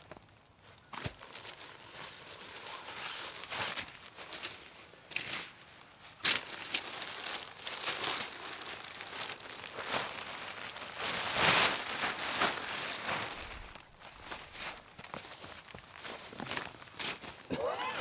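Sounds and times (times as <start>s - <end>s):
tent fabric rustling: 1.1s - 18.0s.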